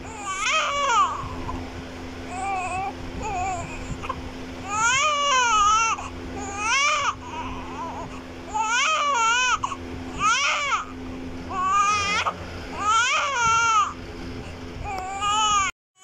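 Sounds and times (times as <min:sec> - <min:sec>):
newborn baby crying: 0:00.0 - 0:01.6, 0:02.3 - 0:10.9, 0:11.5 - 0:14.0, 0:14.9 - 0:15.7.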